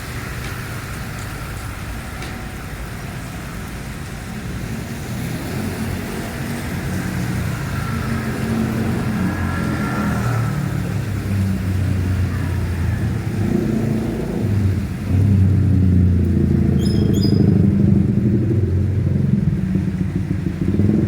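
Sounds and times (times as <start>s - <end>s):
motor vehicle engines running: 0.0s - 21.0s.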